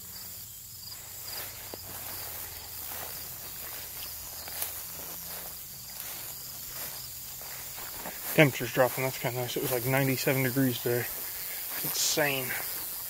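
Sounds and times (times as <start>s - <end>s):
footsteps through brush and grass: 0.0s - 13.0s
insects chorus: 0.0s - 13.0s
rhythmic high chirping: 0.2s - 13.0s.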